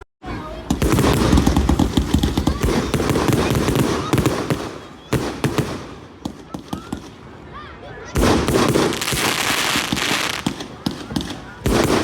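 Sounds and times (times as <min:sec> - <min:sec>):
fireworks crackling and banging: 0:00.5 - 0:12.0.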